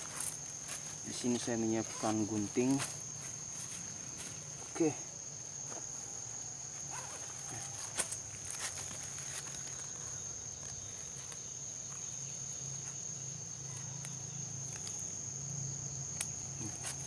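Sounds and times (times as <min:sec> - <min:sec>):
high-pitched insect chirring: 0:00.0 - 0:17.0.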